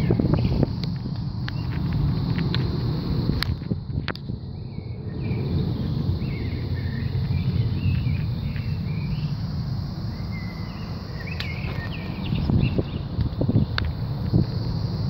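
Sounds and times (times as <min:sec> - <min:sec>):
loud low rumble: 0:00.0 - 0:15.0
small birds chirping: 0:00.0 - 0:15.0.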